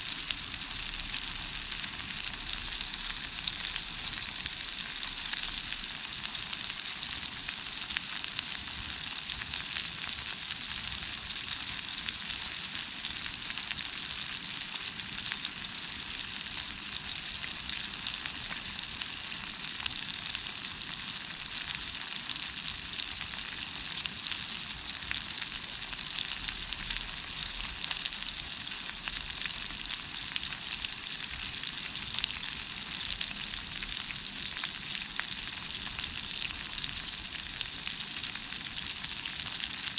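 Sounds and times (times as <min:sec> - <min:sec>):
meat sizzling over campfire: 0:00.0 - 0:39.9.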